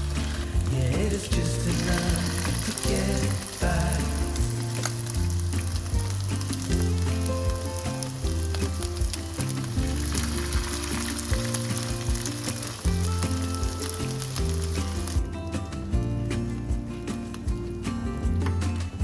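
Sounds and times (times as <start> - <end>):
instrumental music with bass: 0.0 - 19.0.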